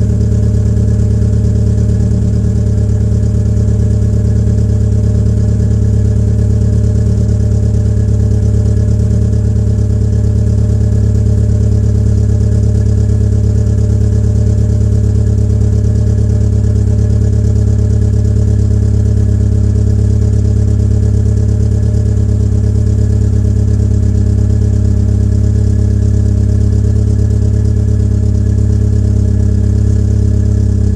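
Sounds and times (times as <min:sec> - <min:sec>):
car engine idling roughly: 0:00.0 - 0:30.9.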